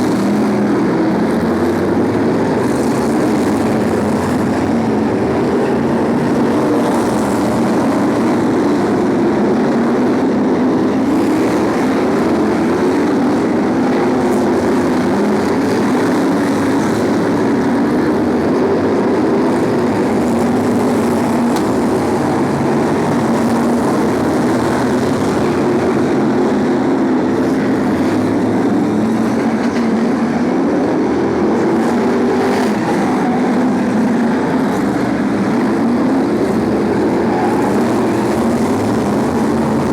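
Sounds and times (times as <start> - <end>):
racing car engines droning: 0.0 - 39.9.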